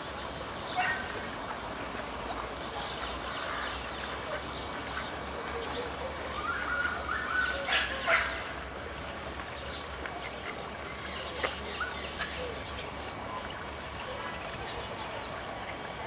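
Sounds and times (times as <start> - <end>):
faint high pulsing hiss: 0.0 - 16.0.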